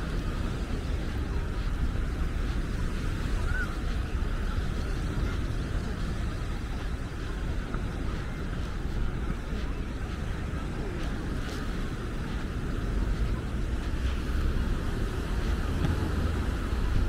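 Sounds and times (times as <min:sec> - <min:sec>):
sea and beach noise: 0:00.0 - 0:17.0
wind buffeting microphone: 0:00.0 - 0:17.0.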